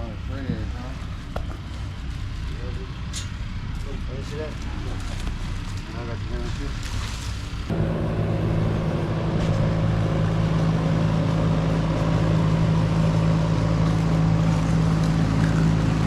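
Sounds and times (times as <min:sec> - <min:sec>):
large engine running steadily: 0:00.0 - 0:16.0.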